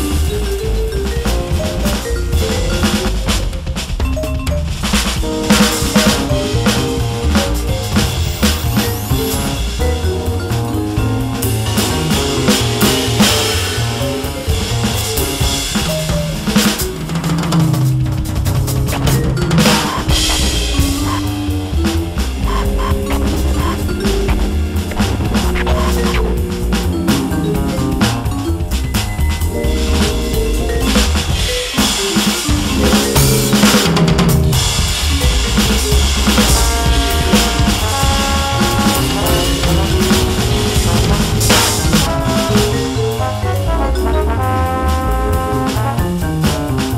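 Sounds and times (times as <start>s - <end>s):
electronic drum kit jazz beat: 0.0s - 46.9s
held backing chords: 0.0s - 46.9s
sequenced bass line: 0.0s - 46.9s.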